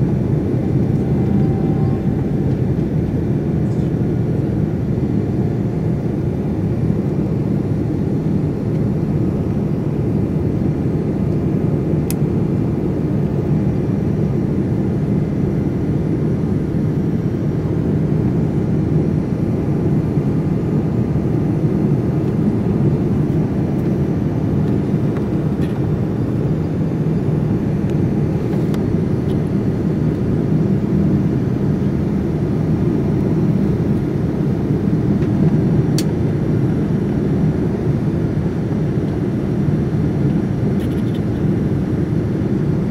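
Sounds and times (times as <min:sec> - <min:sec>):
jet engine and airflow roar: 0:00.0 - 0:42.9.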